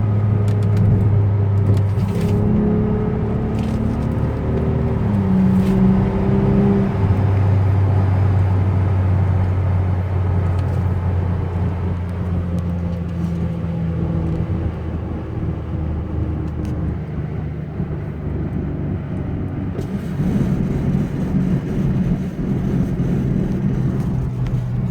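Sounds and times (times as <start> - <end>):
car engine pulling: 0.0 - 24.9.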